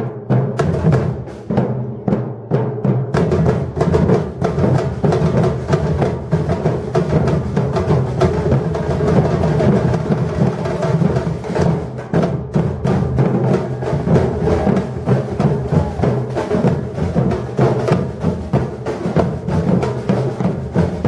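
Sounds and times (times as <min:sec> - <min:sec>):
drum ensemble playing: 0:00.0 - 0:21.0.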